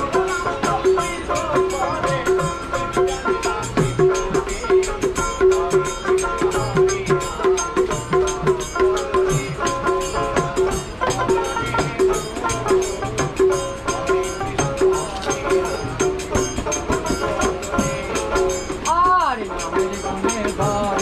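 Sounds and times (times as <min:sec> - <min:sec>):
barrel drum beating quick rhythm: 0:00.0 - 0:21.0
plucked string instrument: 0:00.0 - 0:21.0.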